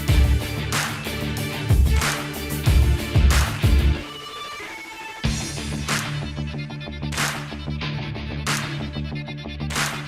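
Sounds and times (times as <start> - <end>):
electronic music bass line: 0.0 - 4.2, 5.2 - 10.0.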